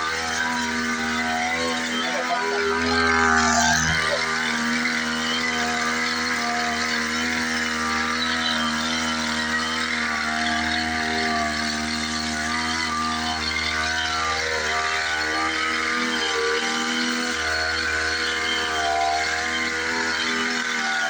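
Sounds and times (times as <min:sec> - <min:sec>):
sprayer engine running: 0:00.0 - 0:21.0.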